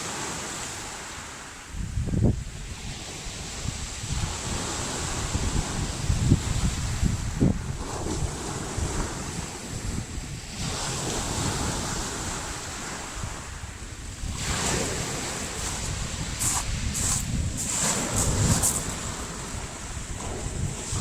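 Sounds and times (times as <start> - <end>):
stormy sea surf: 0.0 - 21.0
waves washing in: 0.0 - 21.0
wind buffeting microphone: 1.7 - 21.0.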